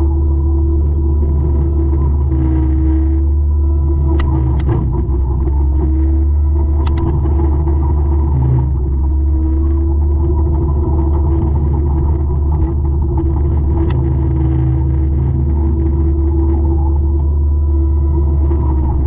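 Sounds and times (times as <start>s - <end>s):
mulcher rumbling under load: 0.0s - 19.0s.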